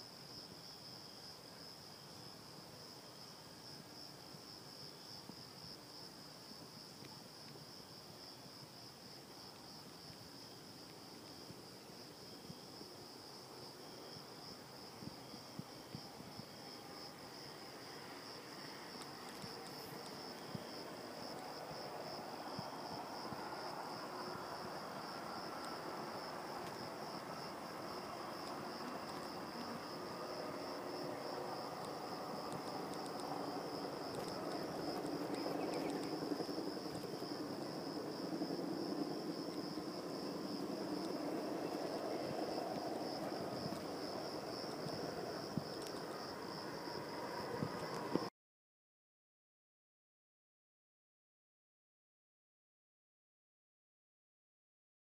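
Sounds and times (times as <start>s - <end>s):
crickets chirping: 0.0s - 48.3s.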